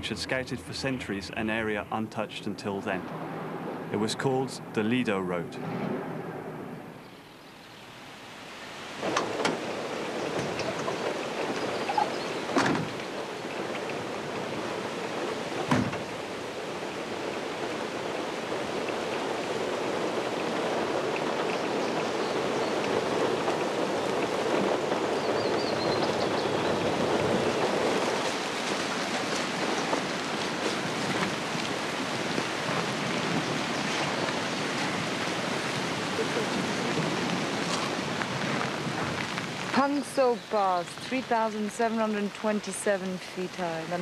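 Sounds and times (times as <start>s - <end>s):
rushing water: 0.0s - 5.8s, 6.8s - 44.0s.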